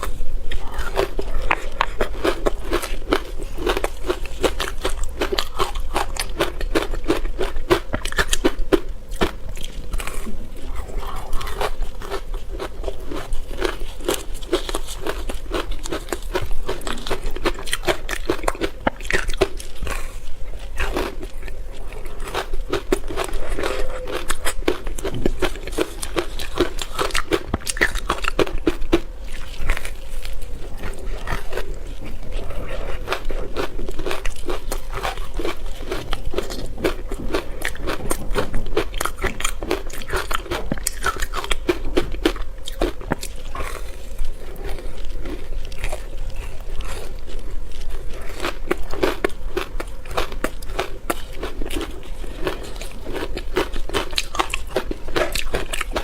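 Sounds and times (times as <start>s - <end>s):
person chewing ice: 0.0s - 56.0s.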